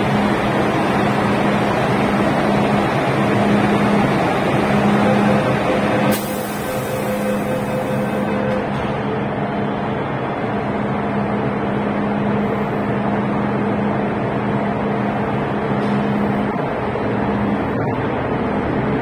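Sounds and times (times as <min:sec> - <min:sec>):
constant noise: 0:00.0 - 0:19.0
electric train humming: 0:00.0 - 0:19.0.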